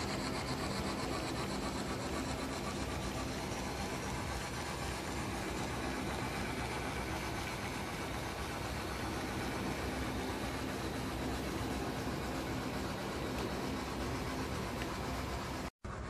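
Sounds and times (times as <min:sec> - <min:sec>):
model train cars rolling: 0:00.0 - 0:16.0.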